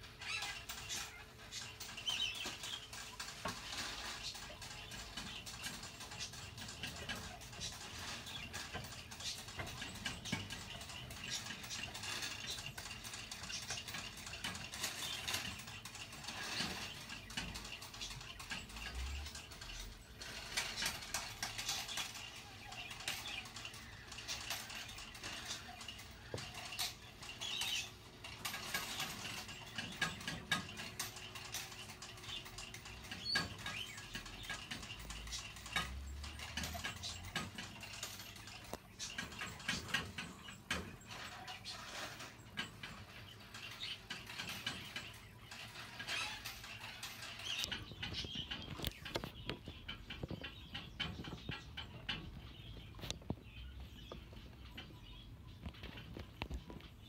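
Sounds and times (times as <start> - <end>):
jerboas scratching in bedding: 0.1 - 51.7.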